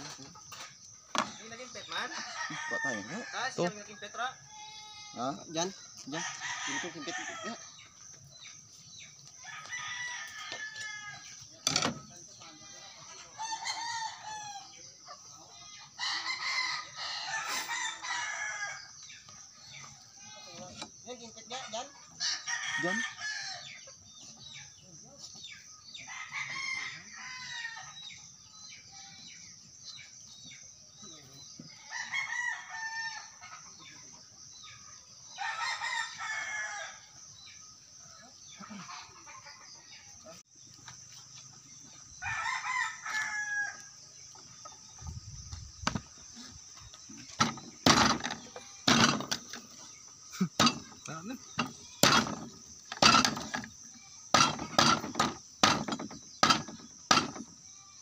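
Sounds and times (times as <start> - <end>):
roosters crowing: 0.0 - 29.5, 30.6 - 40.3, 41.8 - 45.2, 45.8 - 58.0
high insect drone: 0.0 - 58.0.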